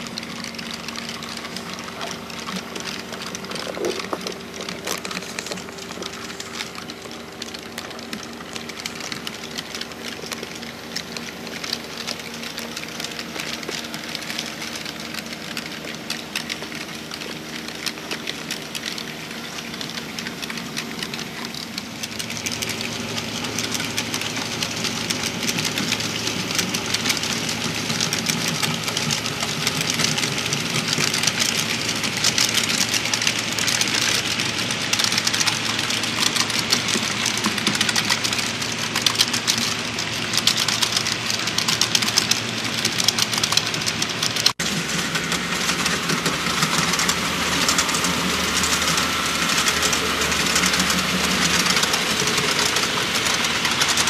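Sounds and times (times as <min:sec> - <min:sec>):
diesel locomotive engine running: 0:00.0 - 0:54.0
rapid clicking: 0:00.0 - 0:54.0.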